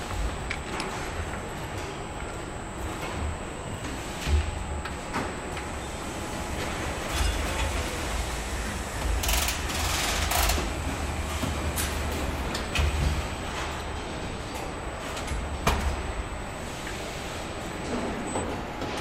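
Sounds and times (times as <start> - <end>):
machinery rumble and hum: 0.0 - 19.0.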